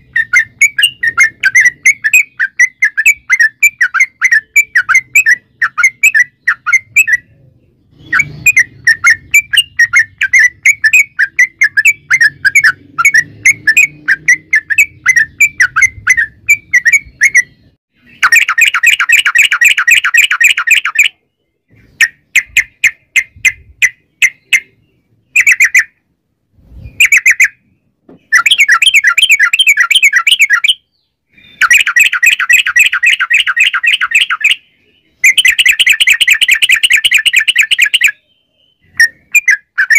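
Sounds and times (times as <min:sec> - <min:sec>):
bird singing rapid chatter: 0:00.0 - 0:39.9.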